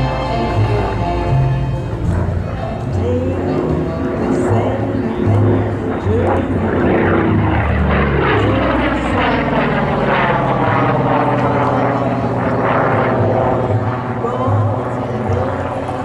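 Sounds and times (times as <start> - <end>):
propeller plane flying overhead: 0.0 - 16.0.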